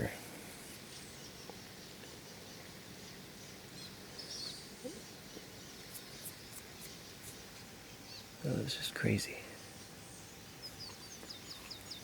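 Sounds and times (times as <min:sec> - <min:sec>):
small bird chirps: 0:00.8 - 0:08.9, 0:09.6 - 0:12.0.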